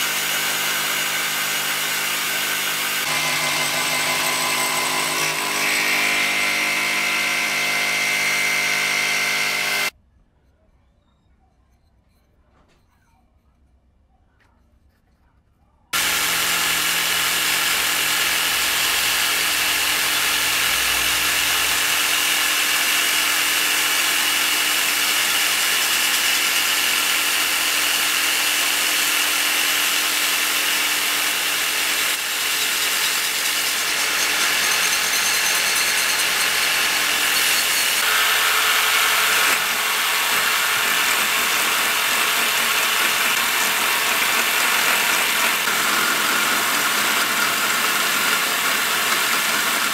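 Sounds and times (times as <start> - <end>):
jigsaw motor whine: 0.0 - 9.9, 16.0 - 49.9
wood being shaved: 0.0 - 9.9, 15.9 - 49.9.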